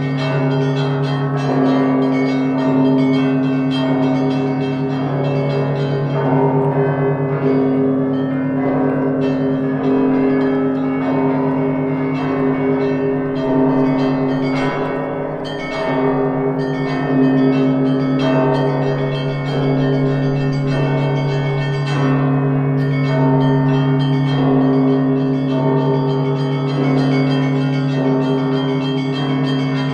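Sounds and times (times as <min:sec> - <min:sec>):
deep bell hum: 0:00.0 - 0:29.9
smaller bells struck: 0:00.0 - 0:29.9.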